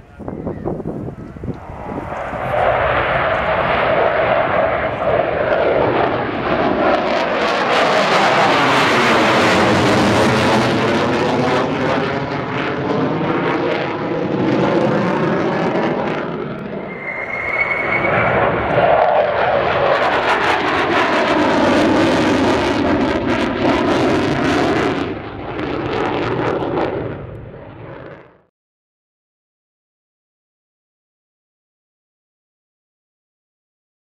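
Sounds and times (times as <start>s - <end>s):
jet engines roaring overhead: 0.0s - 28.5s.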